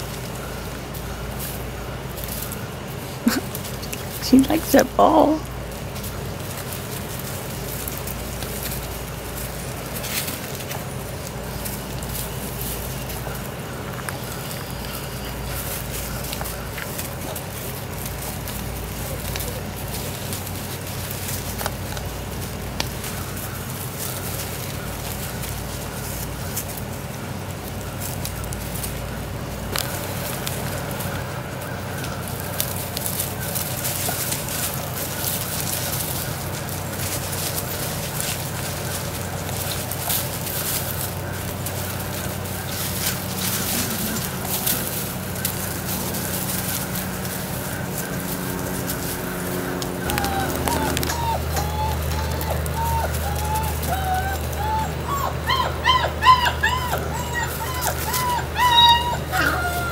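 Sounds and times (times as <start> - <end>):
dog pushing ball through mulch: 0.0 - 59.9
steady low hum: 0.0 - 59.9.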